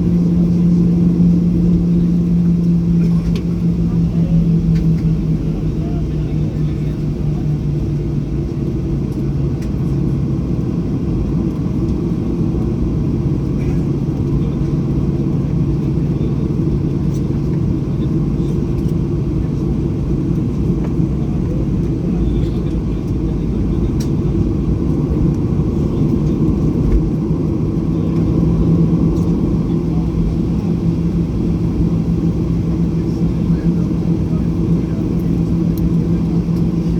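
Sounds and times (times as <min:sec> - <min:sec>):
jet engines heard inside cabin: 0:00.0 - 0:36.9.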